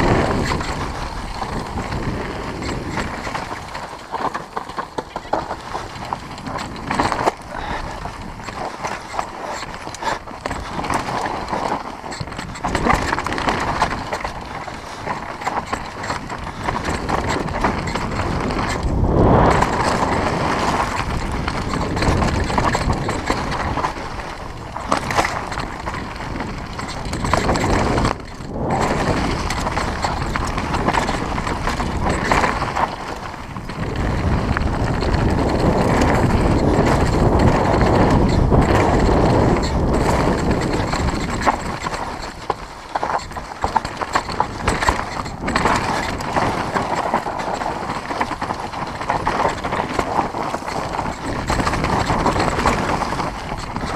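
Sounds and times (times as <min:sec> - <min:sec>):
bike rattling over bumps: 0:00.0 - 0:53.9
bike tyres crunching over dirt: 0:00.0 - 0:53.9.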